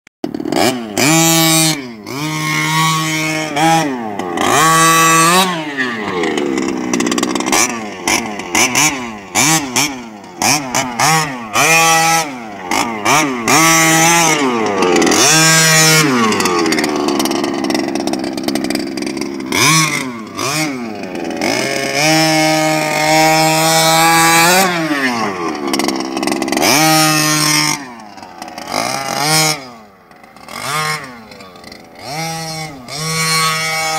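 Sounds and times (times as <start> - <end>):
small two-stroke engine revving: 0.2 - 33.9.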